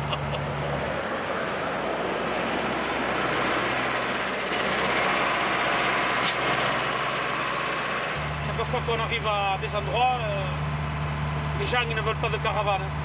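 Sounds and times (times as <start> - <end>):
highway traffic rush: 0.0 - 13.0
truck passing close: 0.0 - 13.0.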